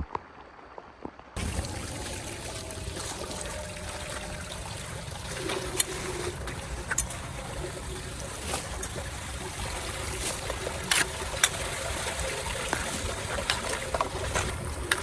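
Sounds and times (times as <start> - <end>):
water splashes: 0.0 - 15.0
water trickling: 1.4 - 15.0.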